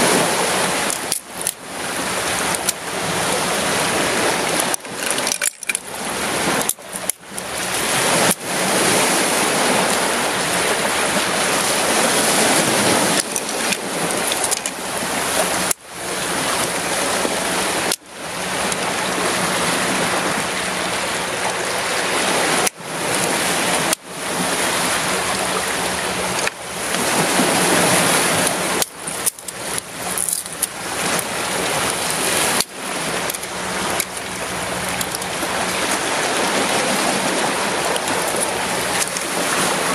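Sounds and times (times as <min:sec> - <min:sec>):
sea surf washing over rocks: 0:00.0 - 0:39.9.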